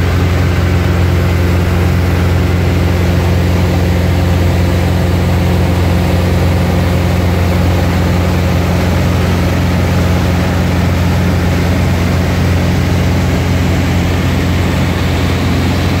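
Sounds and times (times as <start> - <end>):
propeller airplane engine droning: 0.0 - 16.0.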